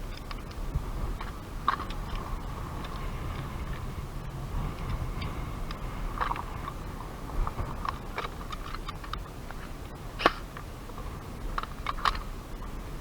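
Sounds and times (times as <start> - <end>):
wind rumble: 0.0 - 13.0.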